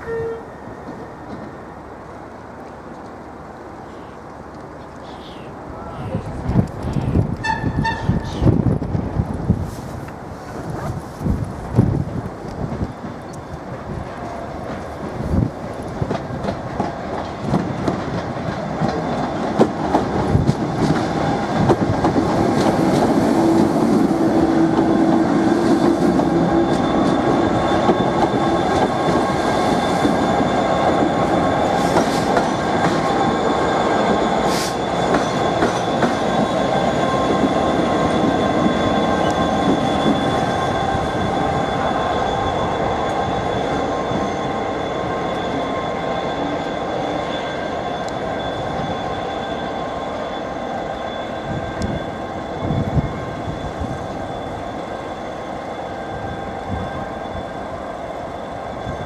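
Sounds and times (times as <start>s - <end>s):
high whine of train: 0.0s - 59.0s.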